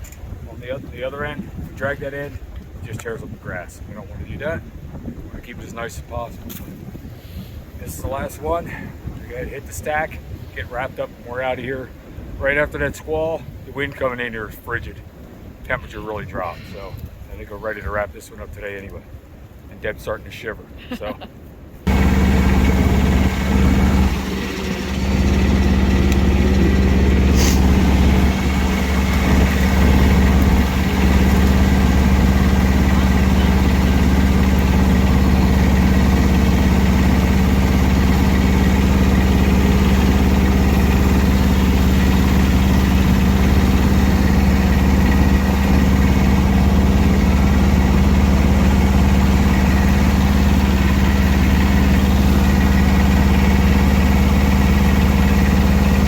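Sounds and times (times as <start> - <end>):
engine running steadily: 0.0 - 12.3, 21.8 - 56.0.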